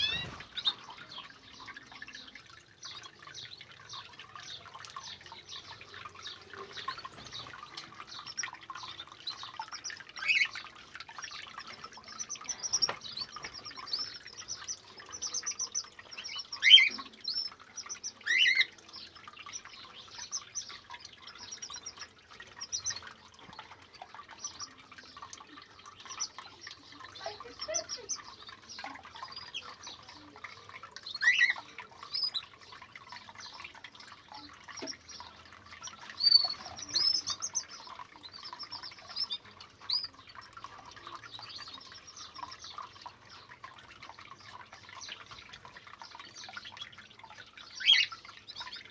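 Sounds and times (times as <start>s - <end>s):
birds chirping: 0.0s - 48.9s
fountain trickling: 0.0s - 48.9s.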